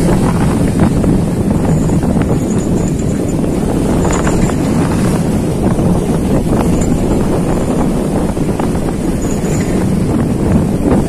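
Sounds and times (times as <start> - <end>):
ship low rumble: 0.0 - 11.0
wind buffeting microphone: 0.0 - 11.0.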